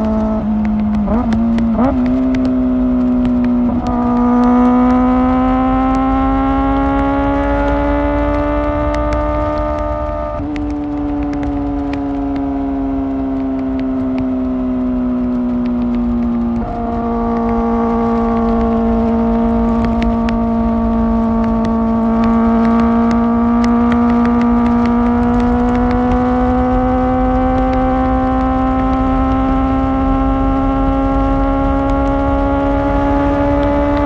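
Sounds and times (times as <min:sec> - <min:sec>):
motorcycle engine at high revs: 0:00.0 - 0:34.0
road rumble: 0:00.0 - 0:34.0
wind: 0:00.0 - 0:34.0.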